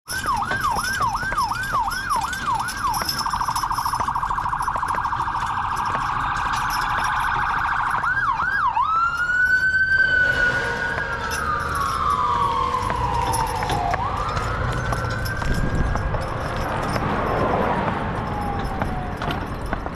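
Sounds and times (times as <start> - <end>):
emergency vehicle siren: 0.1 - 19.9.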